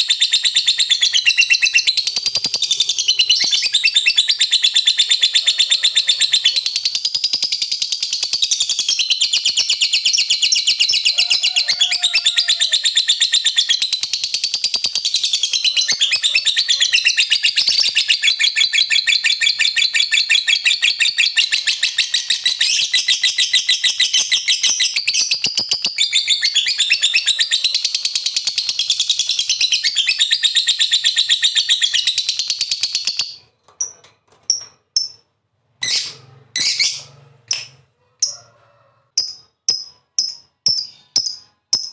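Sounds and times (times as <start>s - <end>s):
lovebird chattering trill: 0.0s - 33.4s, 35.8s - 38.3s.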